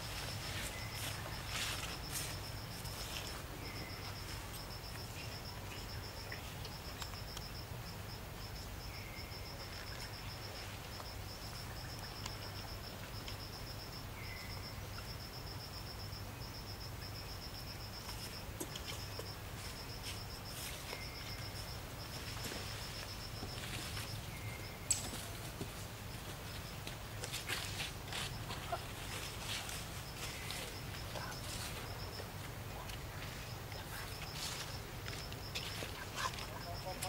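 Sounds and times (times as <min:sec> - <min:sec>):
faint low chirps: 0:00.0 - 0:37.0
insect chirping in pulsing trill: 0:00.0 - 0:37.0
low forest hum: 0:00.0 - 0:37.0.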